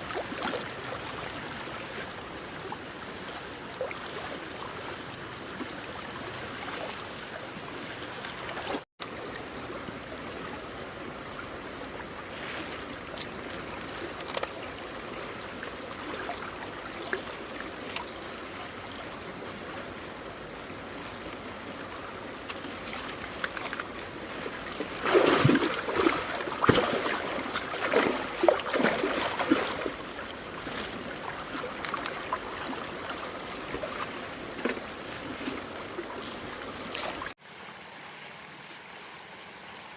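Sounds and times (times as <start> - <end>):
water running and trickling: 0.0 - 37.4
water splashing: 0.0 - 37.4.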